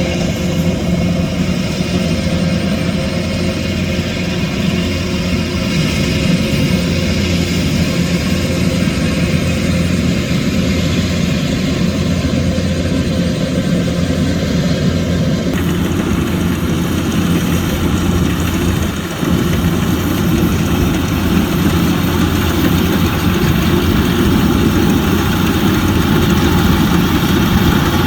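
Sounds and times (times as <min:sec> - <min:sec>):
harvester engine droning: 0:00.0 - 0:28.0.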